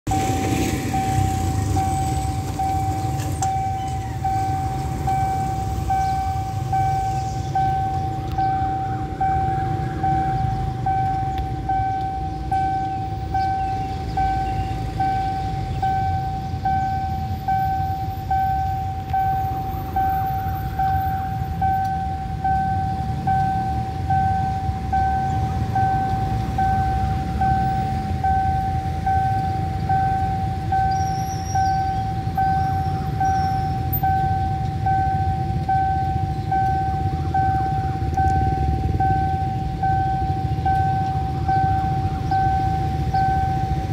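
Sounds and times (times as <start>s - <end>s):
level-crossing alarm pulsing: 0.1s - 43.9s.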